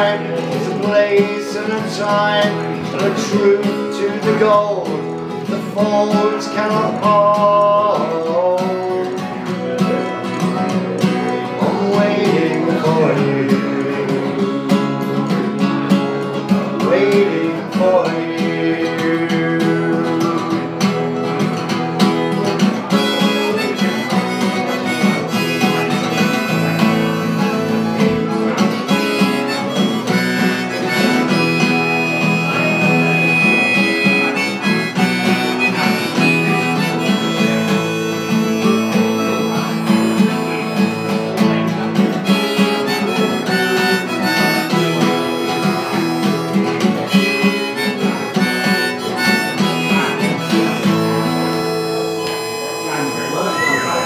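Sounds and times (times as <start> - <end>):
acoustic guitar: 0.0 - 54.0
harmonica: 0.0 - 54.0.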